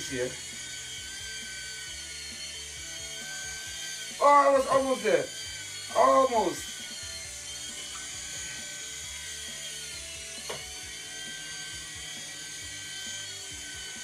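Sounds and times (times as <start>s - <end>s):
toy helicopter rotors whirring: 0.0s - 14.0s.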